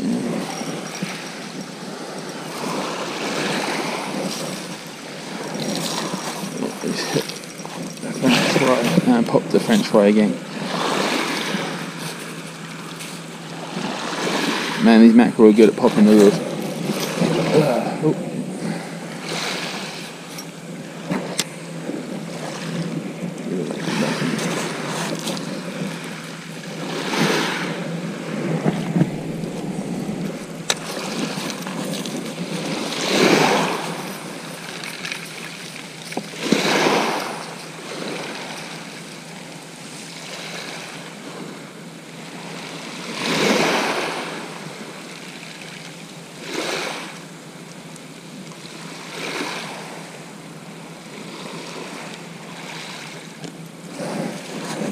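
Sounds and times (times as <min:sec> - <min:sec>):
waves washing up shingle beach: 0:00.0 - 0:54.9.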